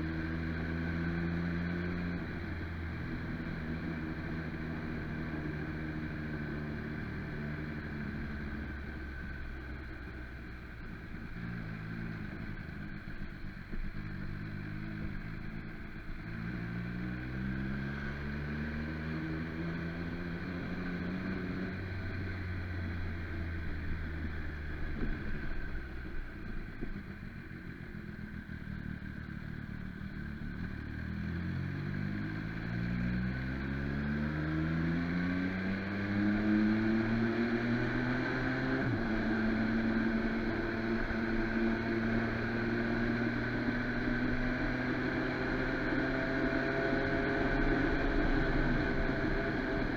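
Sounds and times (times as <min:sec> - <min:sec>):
motorcycle engine accelerating: 0:00.0 - 0:49.9
wind and road noise: 0:00.0 - 0:49.9.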